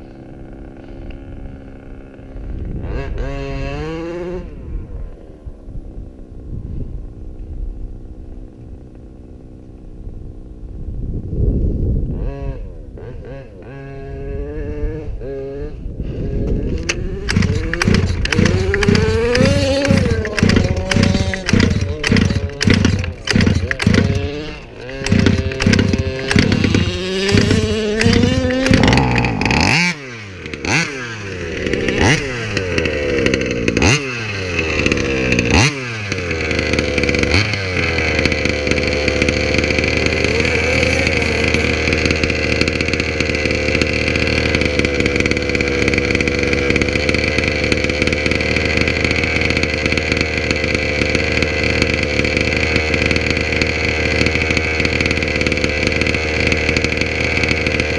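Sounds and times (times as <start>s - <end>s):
two-stroke engine revving: 0.0s - 5.2s, 12.0s - 57.9s.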